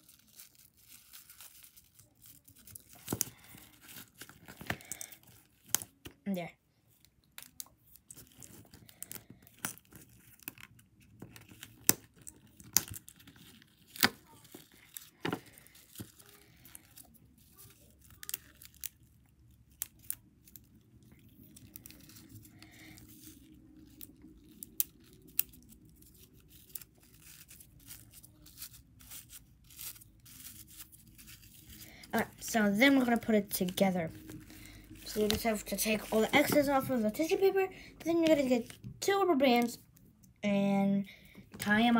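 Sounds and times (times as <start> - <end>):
tissue paper crinkling: 0.0 - 6.0, 8.0 - 37.6.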